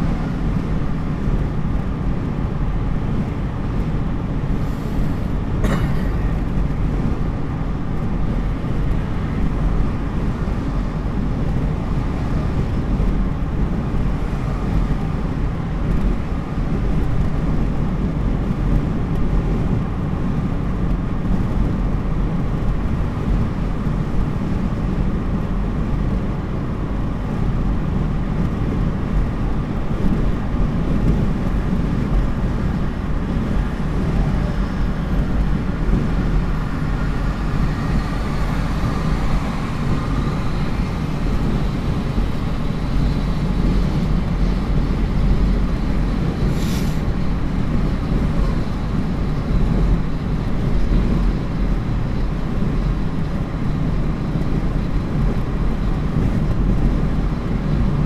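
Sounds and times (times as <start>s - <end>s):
car cabin road noise: 0.0s - 58.0s.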